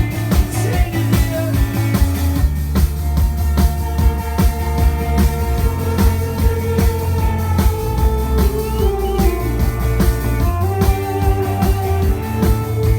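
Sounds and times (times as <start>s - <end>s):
held melody line: 0.0s - 12.9s
plucked guitar: 0.0s - 12.9s
steady drum beat: 0.0s - 12.9s.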